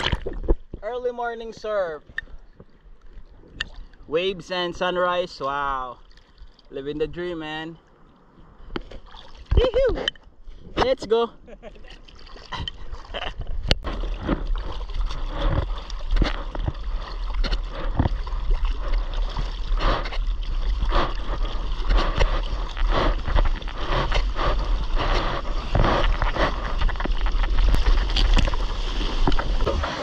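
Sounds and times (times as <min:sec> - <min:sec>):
water splashing: 0:00.0 - 0:07.3, 0:08.8 - 0:10.2, 0:11.6 - 0:30.0
low rumble of water: 0:00.0 - 0:10.8, 0:11.4 - 0:30.0.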